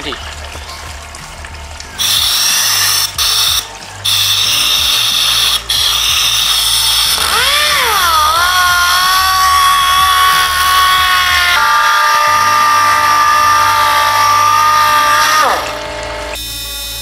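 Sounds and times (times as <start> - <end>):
air sander hissing and whining: 2.0 - 17.0.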